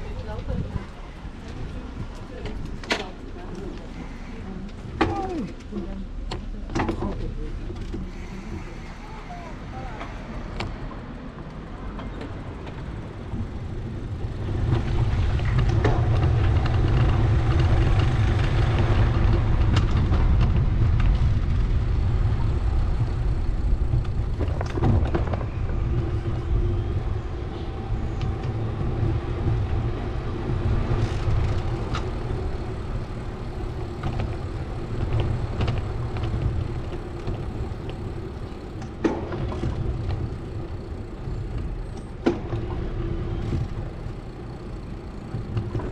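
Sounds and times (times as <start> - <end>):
road traffic rumble: 0.0 - 45.9.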